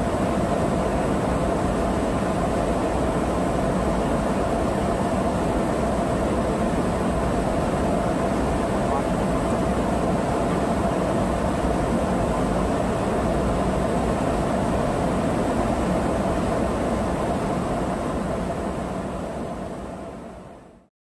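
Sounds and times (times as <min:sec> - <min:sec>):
jet aircraft cabin noise: 0:00.0 - 0:20.6.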